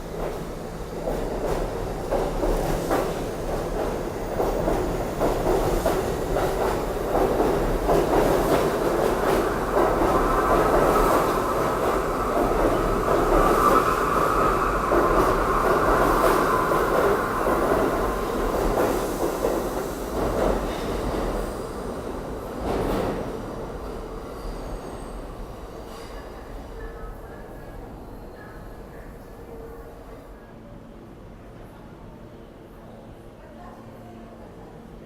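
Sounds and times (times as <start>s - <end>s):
subway wheels clattering: 0.0s - 30.4s.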